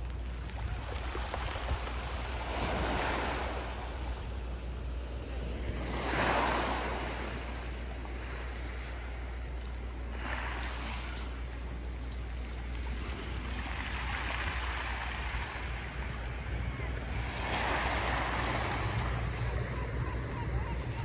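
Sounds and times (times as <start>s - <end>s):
low steady rumble: 0.0s - 21.0s
waves on pebble beach: 0.0s - 21.0s.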